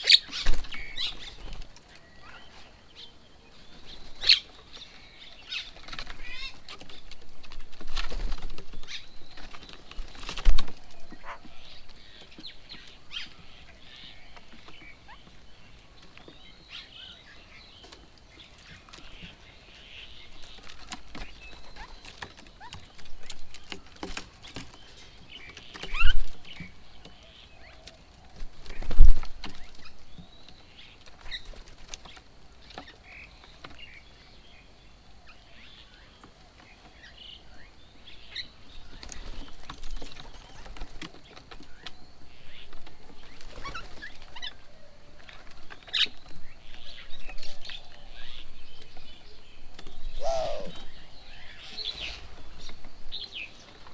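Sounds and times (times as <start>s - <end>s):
birds chirping and calling: 0.0s - 53.9s.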